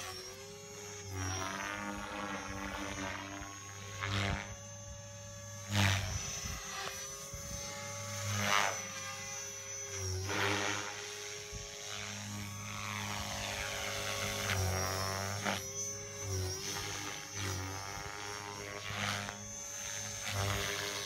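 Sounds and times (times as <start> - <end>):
rc helicopter motor whine: 0.0 - 21.0.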